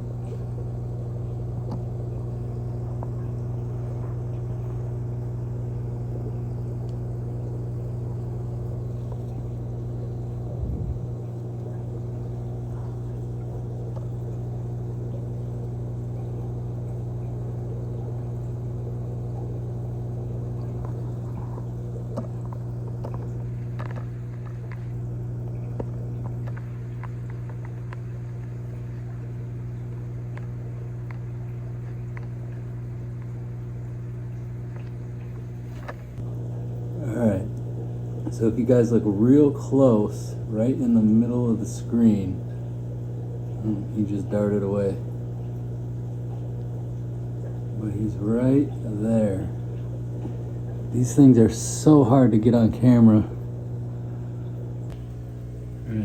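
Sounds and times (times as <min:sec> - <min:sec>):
aquarium equipment humming: 0:00.0 - 0:56.0.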